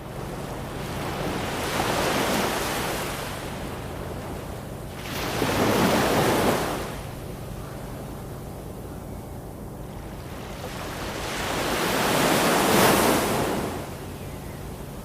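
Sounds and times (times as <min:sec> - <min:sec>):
ocean waves breaking on shore: 0:00.0 - 0:08.5, 0:09.8 - 0:15.0
low rumble of sea: 0:00.0 - 0:15.0.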